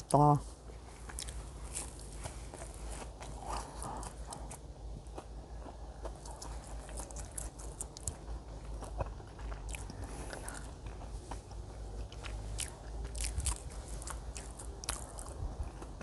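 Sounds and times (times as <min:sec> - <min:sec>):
close chewing: 0:01.0 - 0:16.0.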